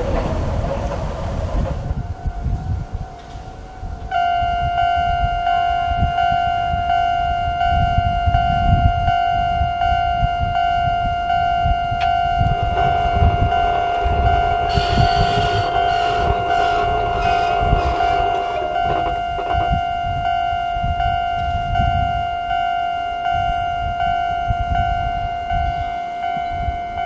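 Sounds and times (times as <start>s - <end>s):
level-crossing alarm ringing: 0.0s - 27.0s
tram rumbling past: 0.0s - 27.0s.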